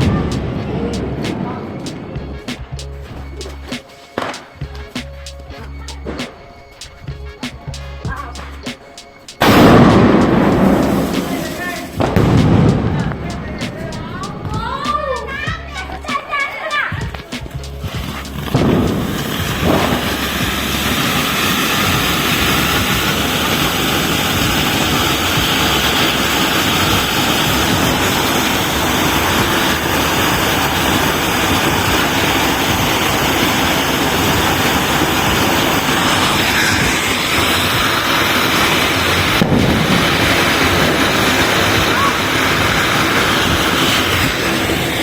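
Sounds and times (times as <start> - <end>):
fireworks hissing and crackling: 0.0 - 45.0.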